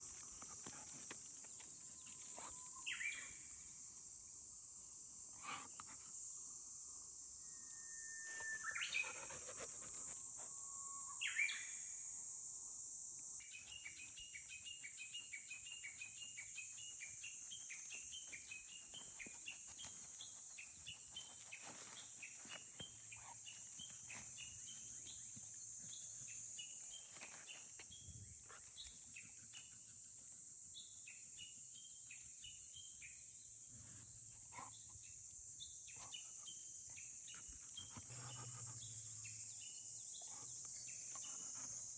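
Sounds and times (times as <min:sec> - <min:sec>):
high insect drone: 0:00.1 - 0:41.9.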